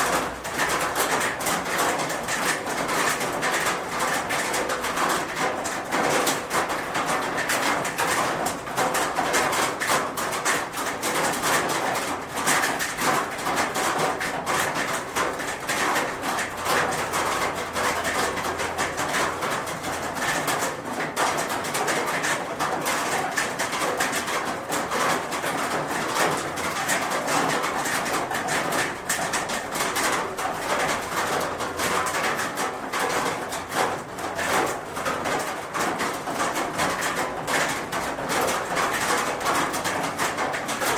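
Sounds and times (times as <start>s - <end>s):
rain pattering on a roof: 0.0s - 40.9s.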